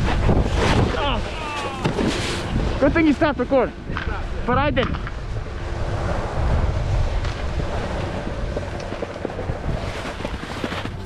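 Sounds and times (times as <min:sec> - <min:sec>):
snowboard sliding over snow: 0:00.0 - 0:03.7, 0:05.1 - 0:11.0
wind buffeting microphone: 0:00.0 - 0:11.0.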